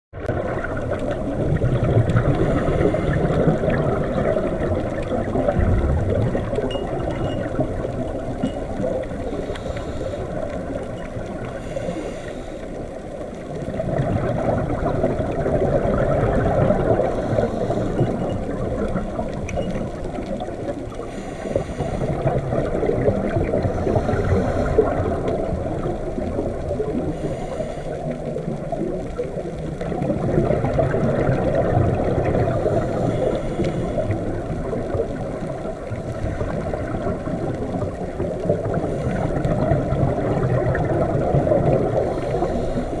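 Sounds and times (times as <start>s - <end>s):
muffled underwater rushing: 0.2s - 43.0s.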